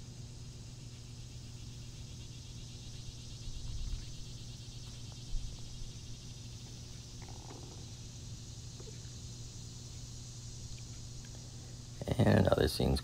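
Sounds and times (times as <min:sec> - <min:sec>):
low steady hum: 0:00.0 - 0:13.0
night insects chirping: 0:00.0 - 0:13.0.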